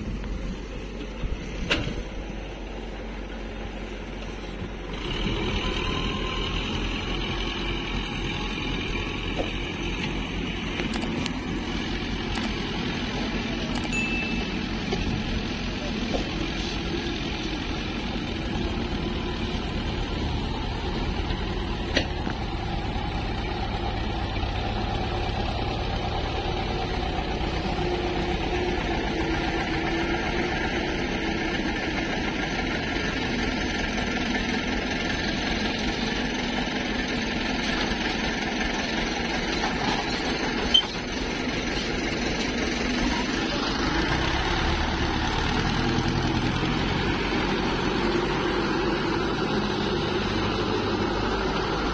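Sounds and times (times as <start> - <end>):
tractor diesel engines running: 0.0 - 51.9.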